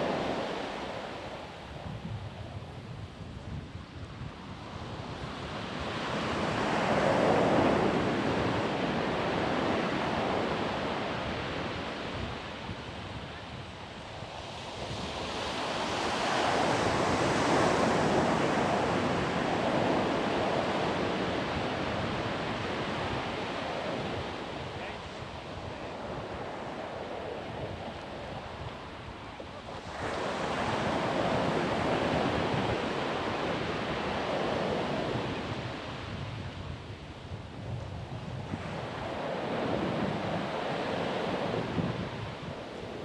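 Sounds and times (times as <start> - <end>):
waves breaking on beach: 0.0 - 43.0
wind rumbling on microphone: 0.0 - 43.0.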